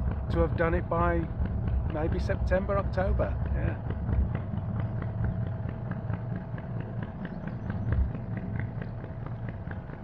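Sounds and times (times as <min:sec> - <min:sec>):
diesel engine rumbling and ticking: 0:00.0 - 0:10.0.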